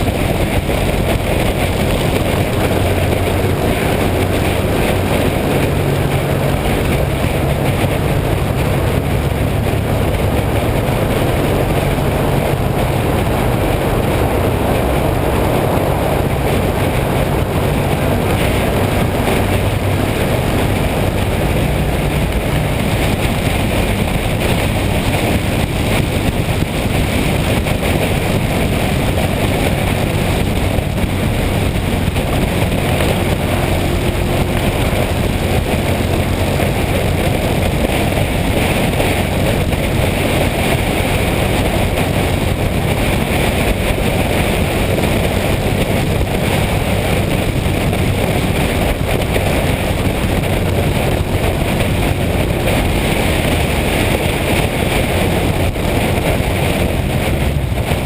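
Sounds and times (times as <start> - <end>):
motorcycle engine drone: 0.0 - 58.0
wind noise on microphone: 0.0 - 58.0.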